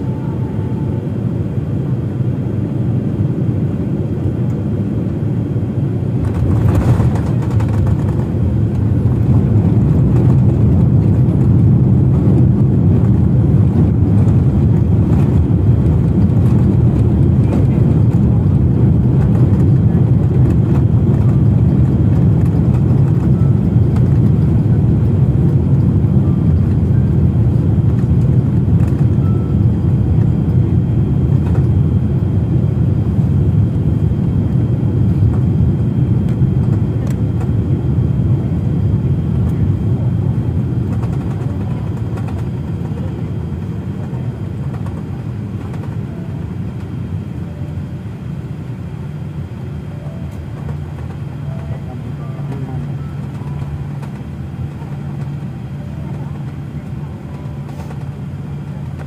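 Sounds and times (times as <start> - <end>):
jet cabin rumble: 0.0 - 59.0.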